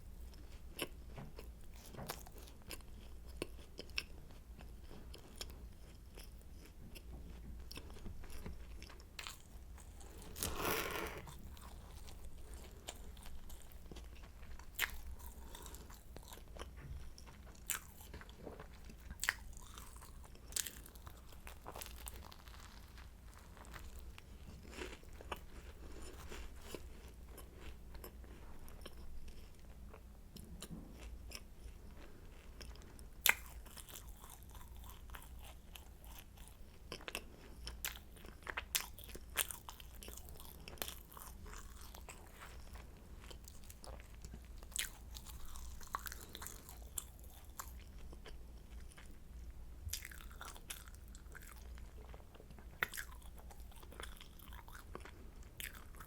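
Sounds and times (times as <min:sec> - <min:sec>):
croissant crunching while chewed: 0:00.3 - 0:56.0.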